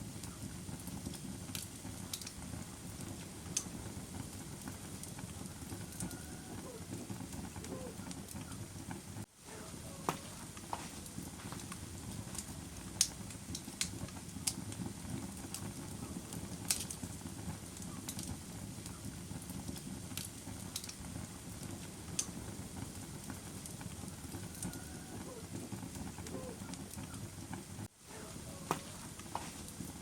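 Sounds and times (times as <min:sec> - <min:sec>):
campfire flames rushing: 0:00.0 - 0:30.0
fire crackles and pops: 0:00.0 - 0:30.0.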